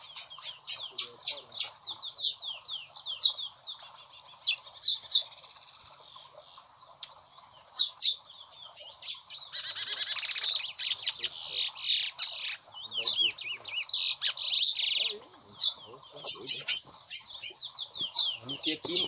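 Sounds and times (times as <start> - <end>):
finches chirping and trilling: 0.0 - 19.0.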